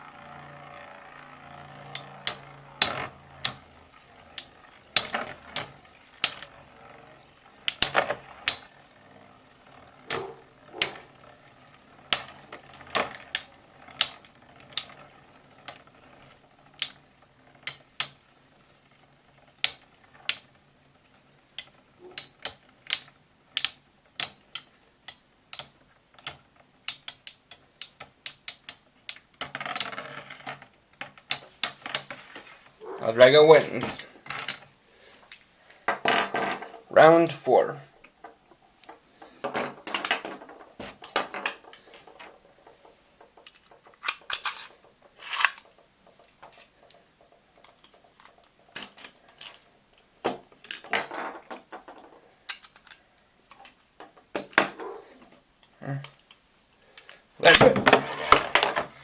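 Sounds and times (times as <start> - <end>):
spinning tops striking metallic clicks: 0.0 - 32.3, 32.9 - 59.0.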